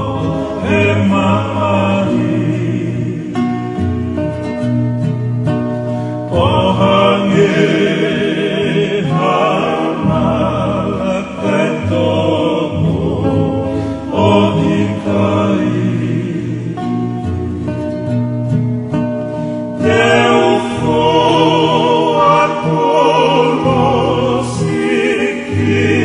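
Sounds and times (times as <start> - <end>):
singing voices with vibrato: 0.0 - 4.3, 6.2 - 18.2, 19.8 - 26.0
instrumental backing with bass: 0.0 - 26.0.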